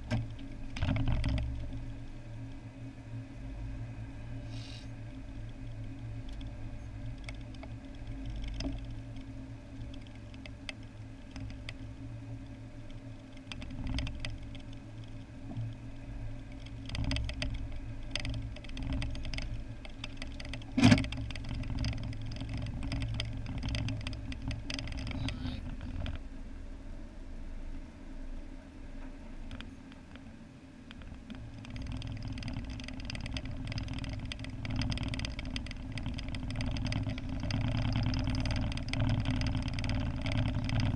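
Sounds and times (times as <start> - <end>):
car engine and road hum: 0.0 - 40.9.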